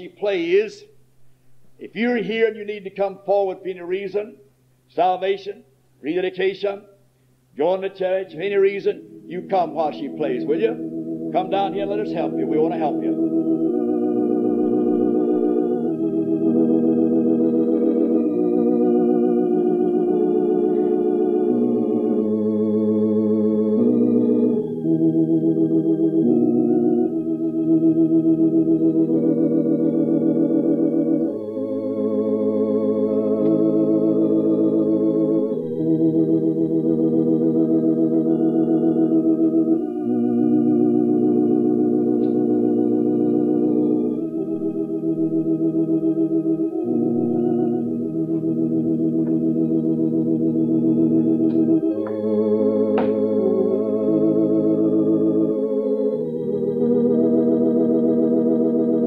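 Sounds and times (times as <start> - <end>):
organ playing held chords: 7.6 - 59.0.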